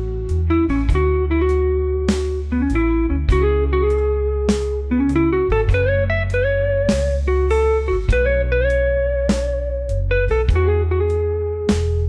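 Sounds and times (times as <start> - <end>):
slide guitar melody: 0.0 - 11.7
steady bass: 0.0 - 12.0.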